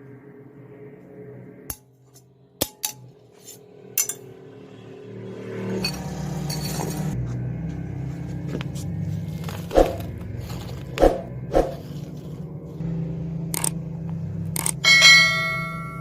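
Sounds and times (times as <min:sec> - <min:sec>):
steady low hum: 0:00.0 - 0:04.5, 0:07.1 - 0:16.0.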